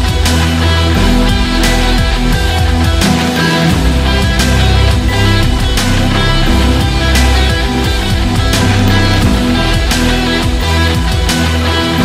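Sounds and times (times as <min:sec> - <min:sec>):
drum hits: 0:00.0 - 0:11.5
rock music with guitar: 0:00.0 - 0:12.0.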